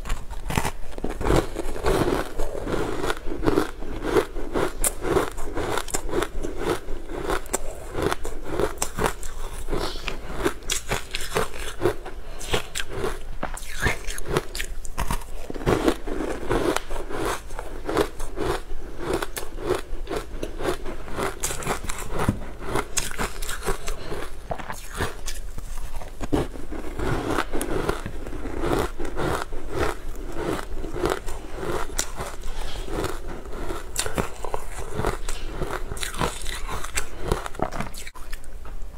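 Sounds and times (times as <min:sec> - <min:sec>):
crunchy chewing: 0:00.0 - 0:38.5.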